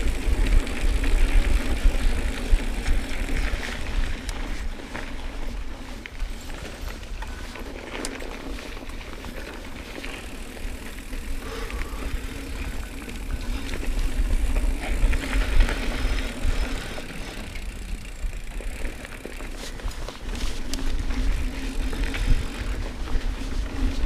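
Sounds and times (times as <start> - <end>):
bike rattling over bumps: 0.0 - 24.0
knobby tyres on dirt: 0.0 - 24.0
wind rumbling on microphone: 0.0 - 24.0.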